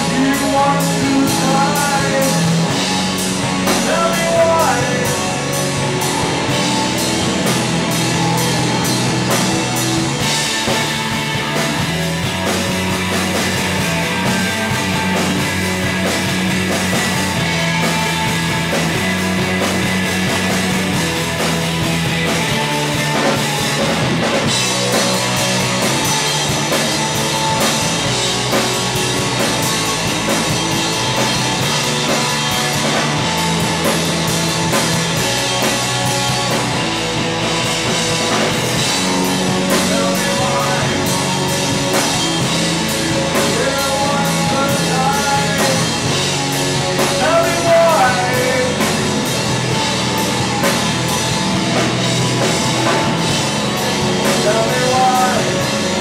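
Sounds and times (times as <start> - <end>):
drum kit steady beat: 0.0 - 56.0
electric bass: 0.0 - 56.0
electric guitar: 0.0 - 56.0.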